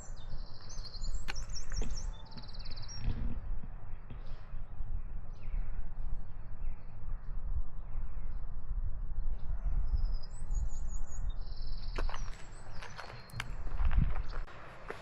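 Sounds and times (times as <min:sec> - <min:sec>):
warbling birdsong: 0:00.0 - 0:14.6
small birds chirping: 0:00.0 - 0:15.0
wind rumble on microphone: 0:00.0 - 0:15.0.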